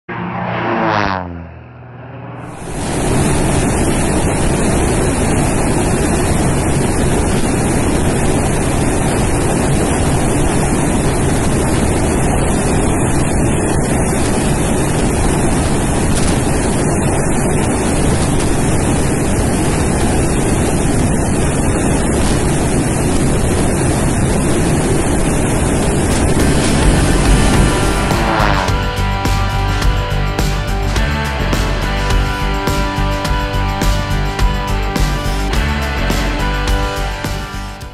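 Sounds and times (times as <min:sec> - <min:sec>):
rushing wind and engine roar: 0:00.0 - 0:37.9.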